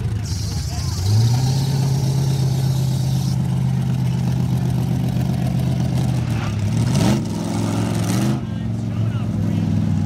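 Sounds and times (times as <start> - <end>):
buggy engine at high revs: 0.0 - 10.0.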